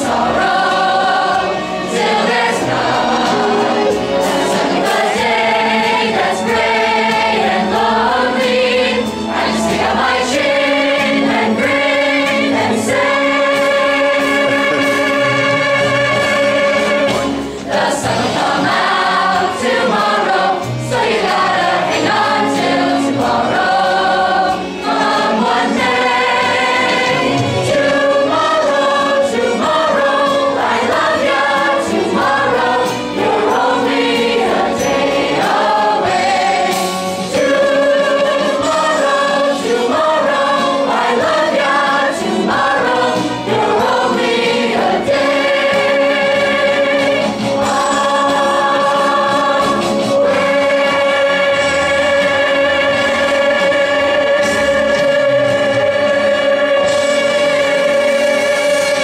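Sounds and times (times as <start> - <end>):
children and adults singing in chorus: 0.0 - 59.0.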